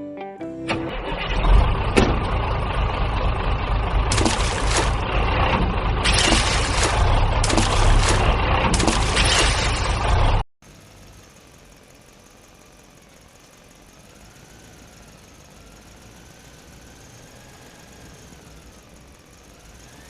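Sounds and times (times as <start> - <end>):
engine idling rumble: 0.7 - 20.0.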